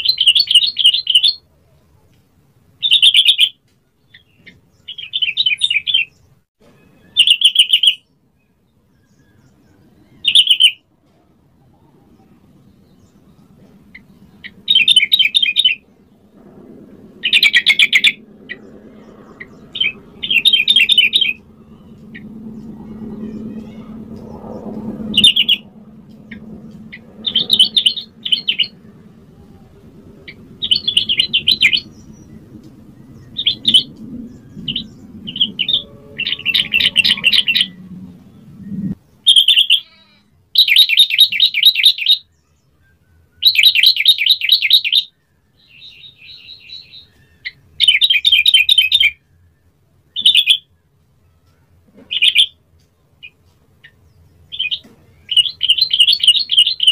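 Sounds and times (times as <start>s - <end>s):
bird chattering song: 0.0s - 1.4s, 2.8s - 10.8s, 11.8s - 16.0s, 17.2s - 40.0s, 40.6s - 49.2s, 50.1s - 52.6s, 53.2s - 56.9s.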